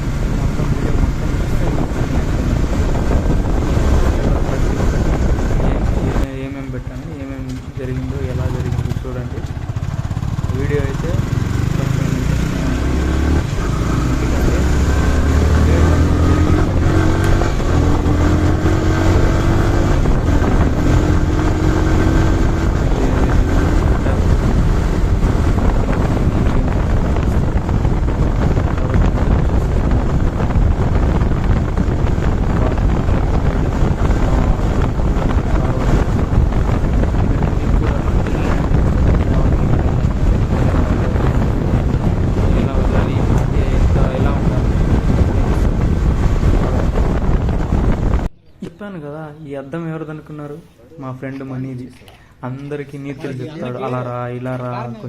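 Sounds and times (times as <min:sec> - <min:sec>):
motorcycle engine revving through gears: 0:00.0 - 0:06.3, 0:07.3 - 0:48.3
wind rush on microphone: 0:00.0 - 0:48.6.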